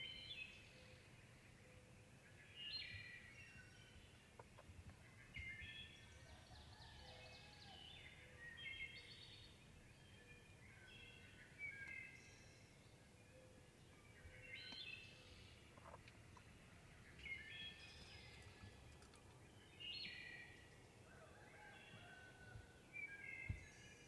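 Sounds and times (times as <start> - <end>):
faint songbirds singing: 0.0 - 24.0.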